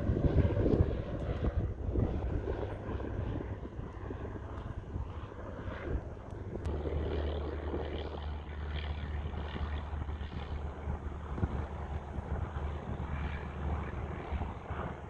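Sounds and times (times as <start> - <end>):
airplane engine drone: 0.0 - 15.0.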